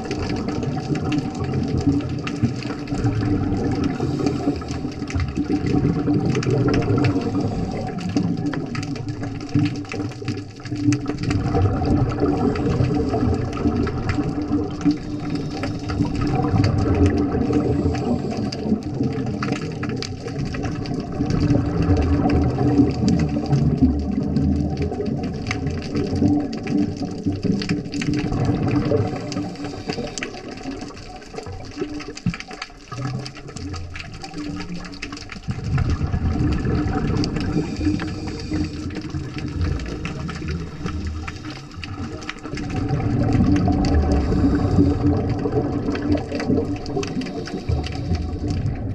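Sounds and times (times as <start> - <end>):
low underwater rumble: 0.0 - 48.9
underwater rushing and bubbling: 0.0 - 48.9.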